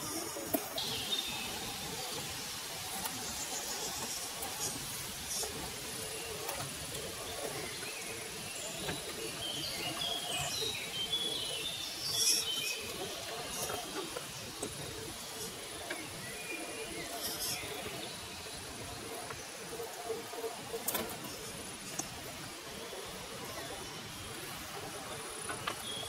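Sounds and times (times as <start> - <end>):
birds chirping: 0.0 - 26.0
running water hiss: 0.0 - 26.0.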